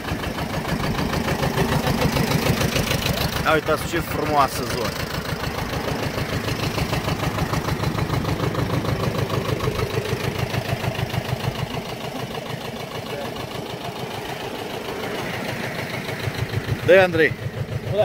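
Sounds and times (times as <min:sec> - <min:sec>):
two-cylinder engine idling: 0:00.0 - 0:18.0.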